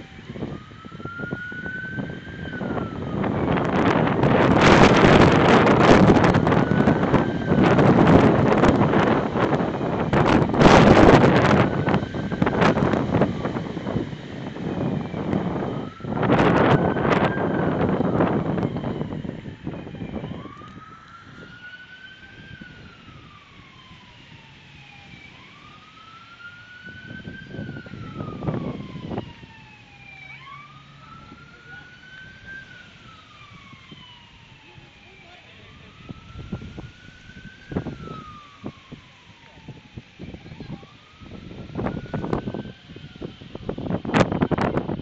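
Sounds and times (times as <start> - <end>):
wind buffeting microphone: 0.0 - 35.0, 35.6 - 45.0
emergency siren wailing: 0.0 - 45.0.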